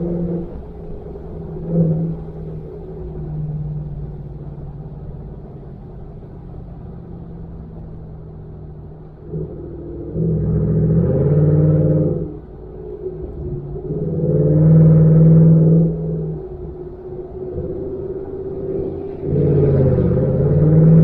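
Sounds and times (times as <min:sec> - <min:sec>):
truck engine exhaust drone: 0:00.0 - 0:21.0.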